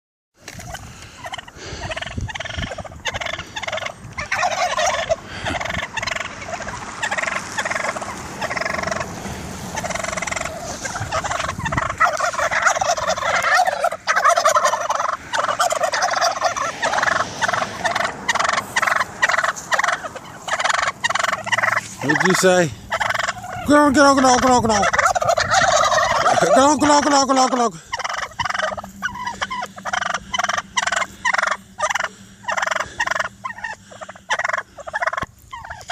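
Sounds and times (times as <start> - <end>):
turkeys gobbling: 0.4 - 35.9.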